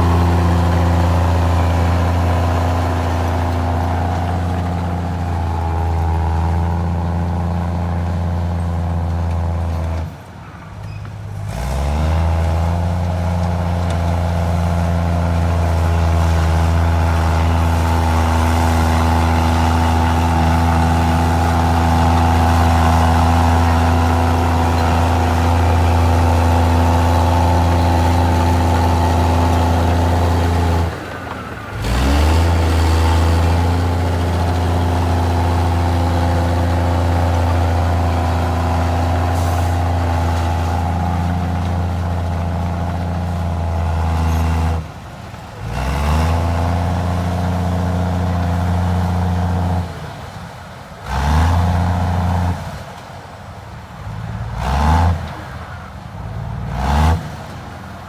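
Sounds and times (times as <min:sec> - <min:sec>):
bulldozer diesel engine running: 0:00.0 - 0:56.8.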